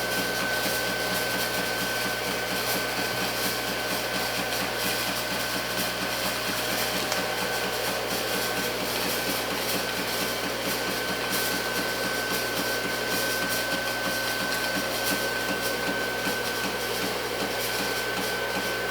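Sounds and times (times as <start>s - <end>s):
haze machine fan whine: 0.0s - 18.9s.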